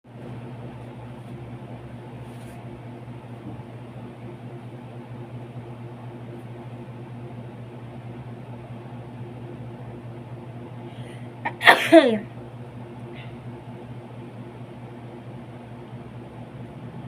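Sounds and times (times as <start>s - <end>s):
low machine hum with hiss: 0.1s - 17.0s.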